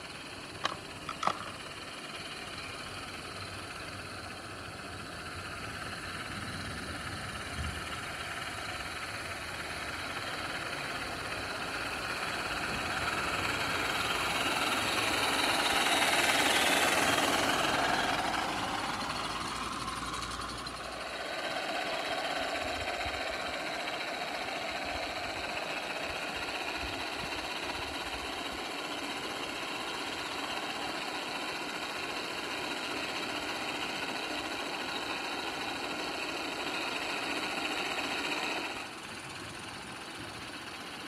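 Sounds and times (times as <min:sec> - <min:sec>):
steam locomotive exhaust beat: 0:00.0 - 0:41.0.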